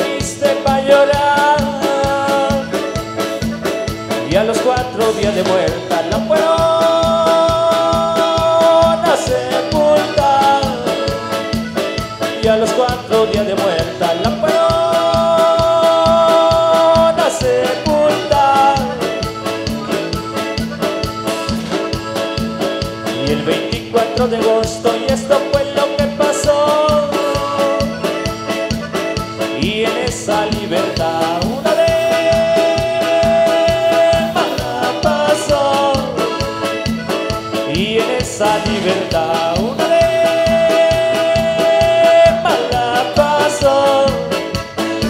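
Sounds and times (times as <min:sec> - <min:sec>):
man singing: 0:00.0 - 0:20.7, 0:22.8 - 0:45.0
live band playing dance music: 0:00.0 - 0:45.0.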